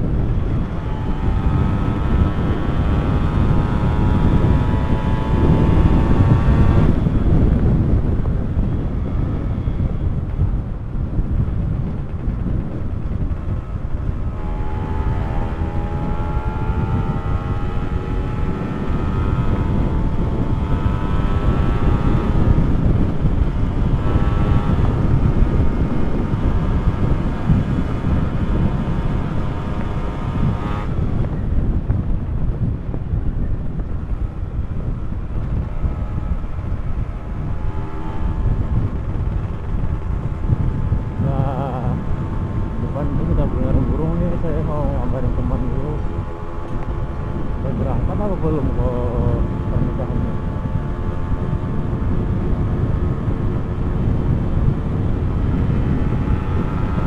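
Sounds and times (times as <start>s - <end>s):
two-stroke motorcycle engine accelerating: 0.0s - 57.0s
wind rumble on microphone: 0.0s - 57.0s.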